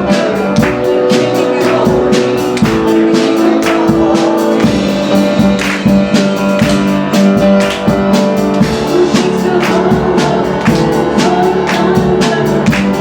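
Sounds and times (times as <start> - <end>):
drum kit steady beat: 0.0 - 13.0
held guitar chords: 0.0 - 13.0.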